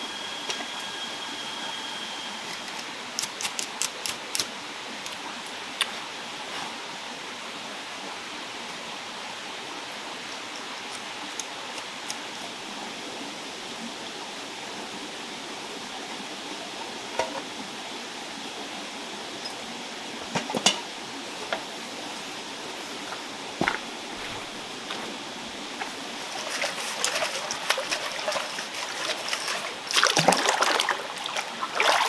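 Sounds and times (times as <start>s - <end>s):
forest stream rushing: 0.0s - 32.0s.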